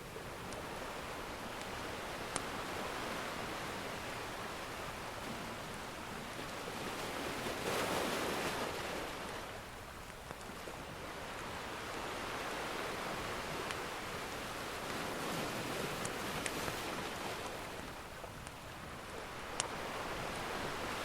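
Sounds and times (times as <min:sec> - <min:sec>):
ocean surf washing: 0:00.0 - 0:21.0.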